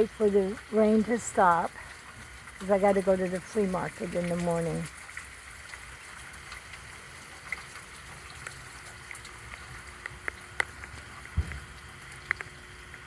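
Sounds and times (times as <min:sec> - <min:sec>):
rain falling: 0:00.0 - 0:13.0
sharp drips ticking: 0:00.0 - 0:13.0
water running: 0:00.0 - 0:13.0.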